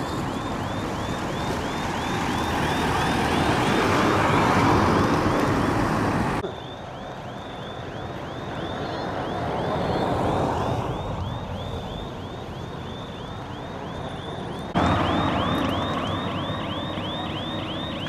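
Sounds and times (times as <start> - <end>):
moving vehicle noise: 0.0 - 18.0
siren yelping: 0.0 - 18.0.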